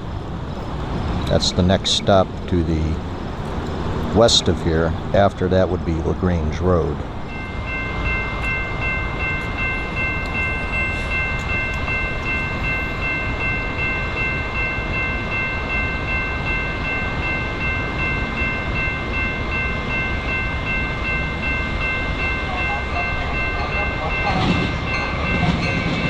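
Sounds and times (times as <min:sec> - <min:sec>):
train rumbling past: 0:00.0 - 0:26.0
pulsing three-tone ringing: 0:03.1 - 0:26.0.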